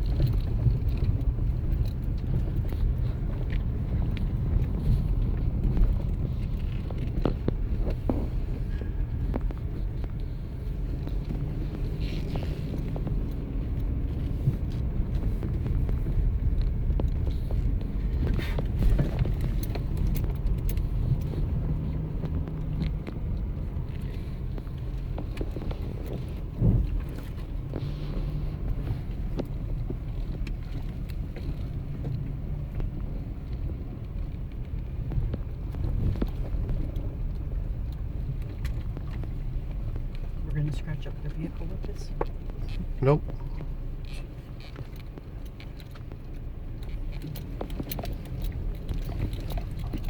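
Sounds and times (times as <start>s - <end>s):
van engine and road rumble: 0.0s - 50.0s.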